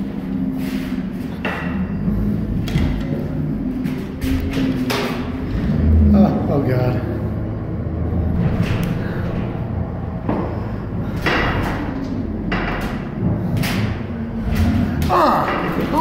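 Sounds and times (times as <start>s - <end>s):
low road rumble: 0.0s - 16.0s.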